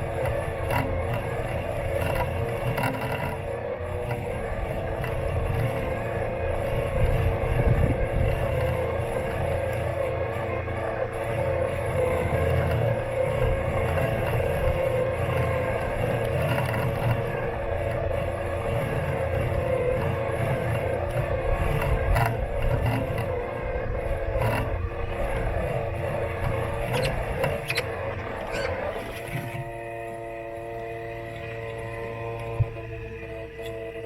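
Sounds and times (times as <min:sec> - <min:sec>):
lawn mower motor hum: 0:00.0 - 0:34.0.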